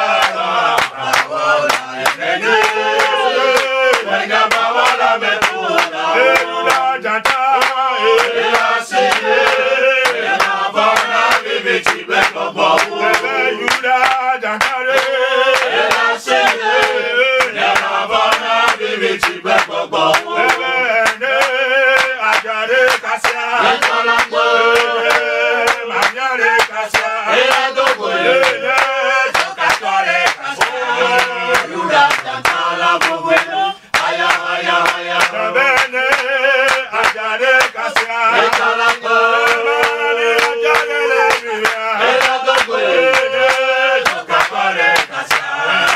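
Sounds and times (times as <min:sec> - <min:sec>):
men chanting together: 0:00.0 - 0:45.9.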